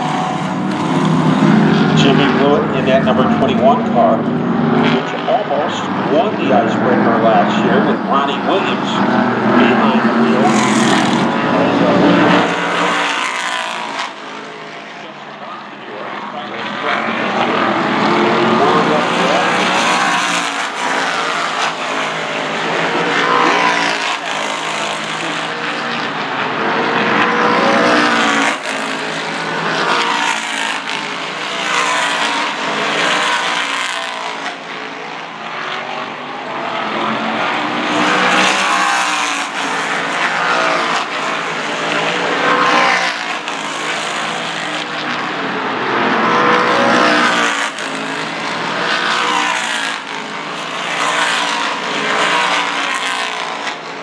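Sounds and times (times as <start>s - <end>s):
race car engine accelerating: 0.0s - 53.9s.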